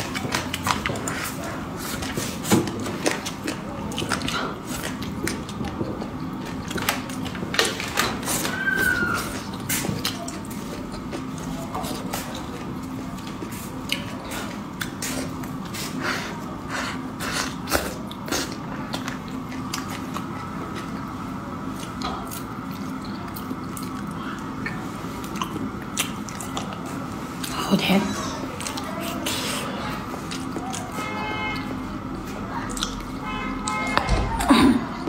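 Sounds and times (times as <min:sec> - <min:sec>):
chewing and mouth smacking: 0:00.0 - 0:27.6, 0:28.4 - 0:31.0, 0:31.6 - 0:34.5.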